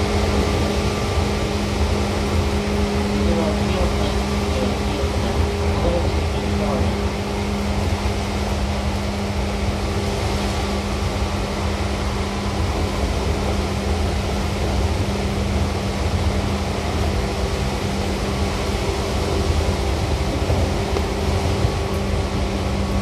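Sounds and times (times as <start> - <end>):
electric train wheels rumbling: 0.0 - 23.0
train motor hum: 0.0 - 23.0.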